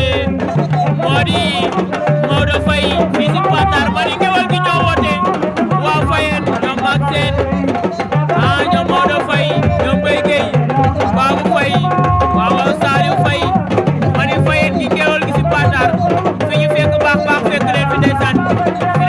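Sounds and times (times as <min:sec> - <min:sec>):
drum beat: 0:00.0 - 0:19.0
person singing: 0:00.0 - 0:19.0.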